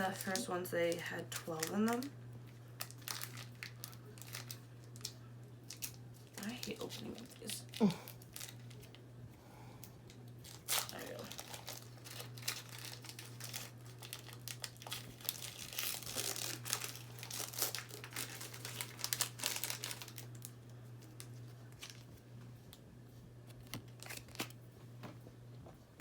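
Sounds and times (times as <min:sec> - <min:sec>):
wrapper crinkling and tearing: 0:00.0 - 0:09.0, 0:10.4 - 0:22.2, 0:23.5 - 0:24.6.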